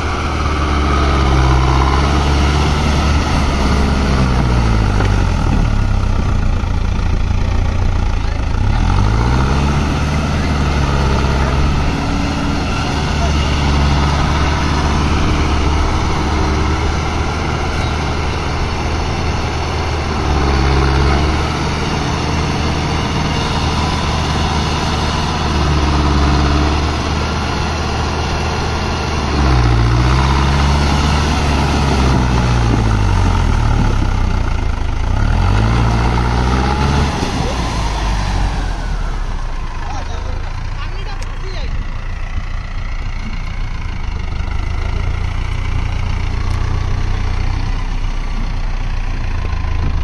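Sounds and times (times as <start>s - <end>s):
tractor diesel engine under load: 0.0s - 50.0s.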